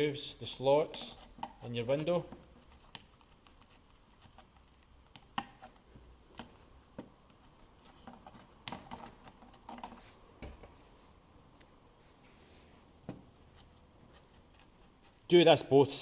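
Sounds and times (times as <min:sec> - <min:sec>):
fingers tapping and rustling foam: 0:00.8 - 0:11.8, 0:12.9 - 0:15.7.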